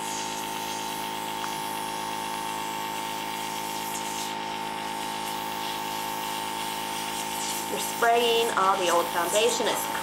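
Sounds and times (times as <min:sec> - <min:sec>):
airbrush spraying hiss: 0:00.0 - 0:10.0
compressor humming: 0:00.0 - 0:10.0.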